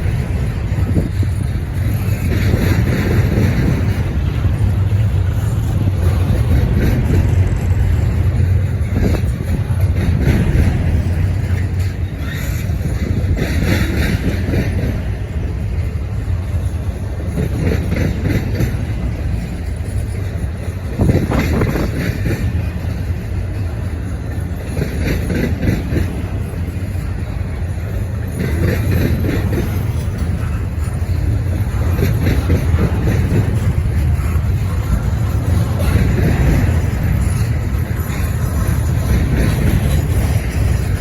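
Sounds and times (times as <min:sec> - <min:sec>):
train cars rattling: 0:00.0 - 0:41.0
train wheels rumbling on rail: 0:00.0 - 0:41.0.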